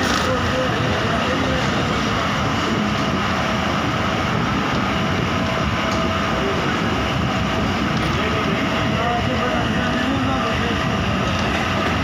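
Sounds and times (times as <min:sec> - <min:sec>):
moving passenger train running: 0:00.0 - 0:12.0.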